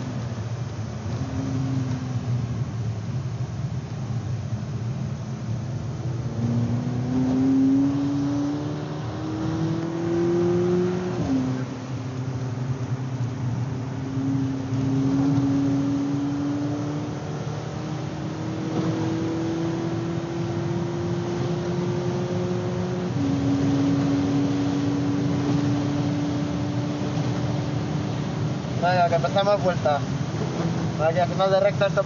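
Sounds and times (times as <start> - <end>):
car engine accelerating: 0.0 - 32.0
road and tyre noise: 0.0 - 32.0.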